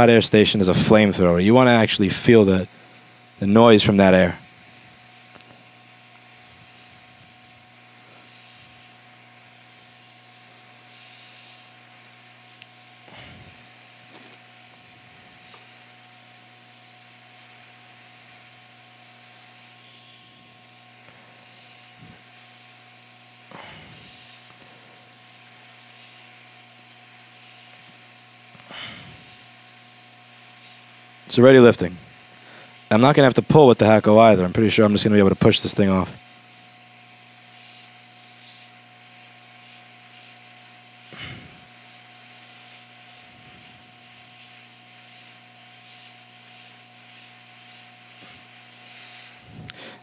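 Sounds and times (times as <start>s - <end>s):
hot air blowing hiss: 0.0s - 50.0s
steady hum: 0.0s - 50.0s.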